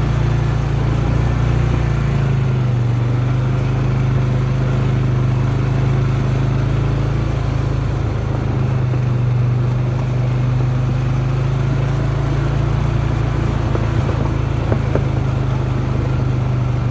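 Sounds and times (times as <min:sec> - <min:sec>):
off-road vehicle engine running: 0:00.0 - 0:16.9.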